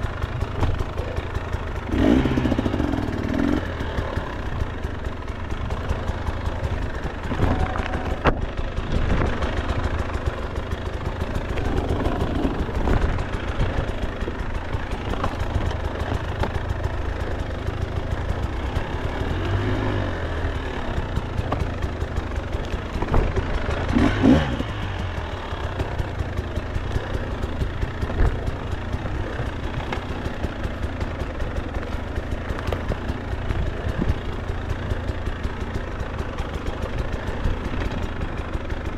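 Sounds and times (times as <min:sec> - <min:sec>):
dirt bike engine revving: 0:00.0 - 0:08.2, 0:09.0 - 0:22.0, 0:22.6 - 0:38.9.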